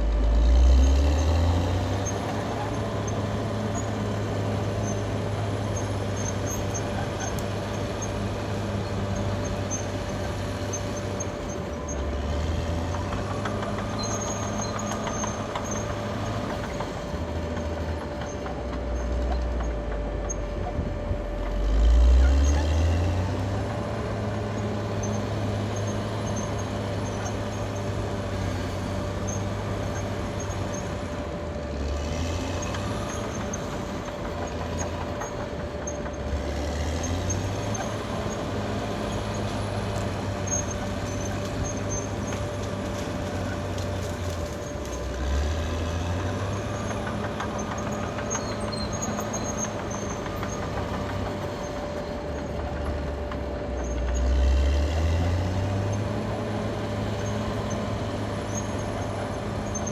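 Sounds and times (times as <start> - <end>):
bulldozer diesel engine whining: 0.0 - 59.9.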